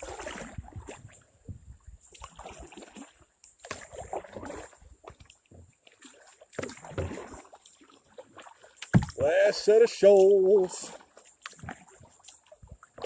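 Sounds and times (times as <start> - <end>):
kayak paddle splashing: 0.0 - 13.0.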